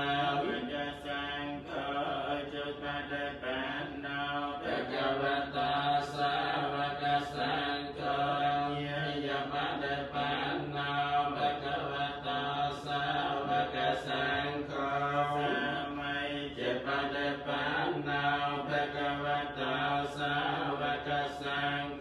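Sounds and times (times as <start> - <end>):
voices chanting in monotone: 0.0 - 22.0.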